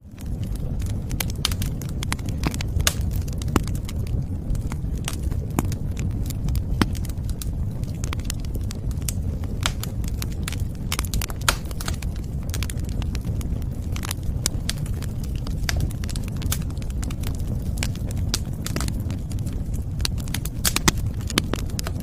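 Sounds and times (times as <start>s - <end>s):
low rumble: 0.0s - 22.0s
wood fire crackling: 0.0s - 22.0s
sharp pops and snaps: 1.2s - 22.0s.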